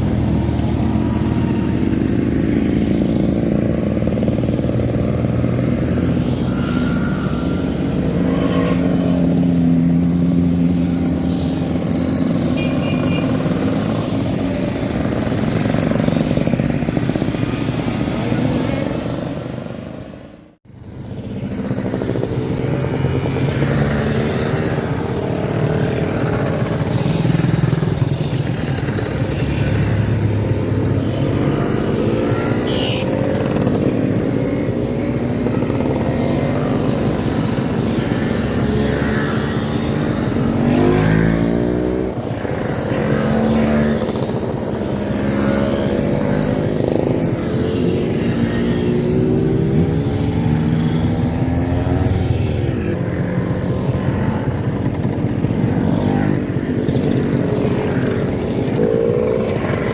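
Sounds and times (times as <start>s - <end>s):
motorcycle and scooter engines: 0.0s - 59.9s.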